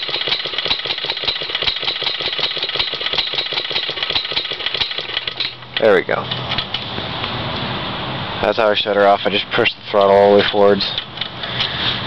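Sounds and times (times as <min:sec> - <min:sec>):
riding mower engine running: 0:00.0 - 0:12.0.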